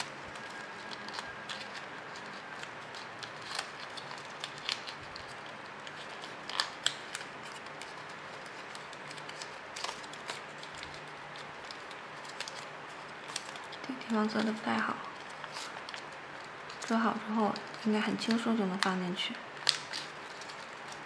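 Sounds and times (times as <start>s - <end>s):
paper crackling and rustling: 0.0s - 21.0s.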